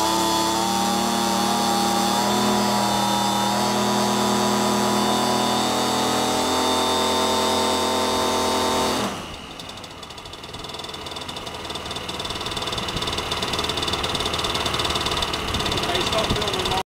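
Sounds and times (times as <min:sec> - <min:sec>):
model plane engine running: 0:00.0 - 0:16.8.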